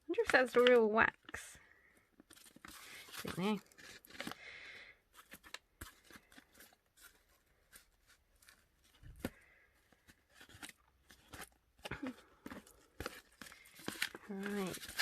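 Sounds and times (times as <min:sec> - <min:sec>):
packaging rustling: 0:02.1 - 0:15.0.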